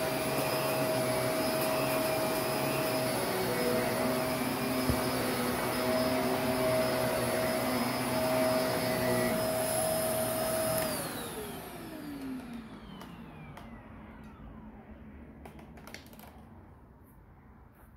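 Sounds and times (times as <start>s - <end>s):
vacuum motor whine: 0.0s - 15.6s.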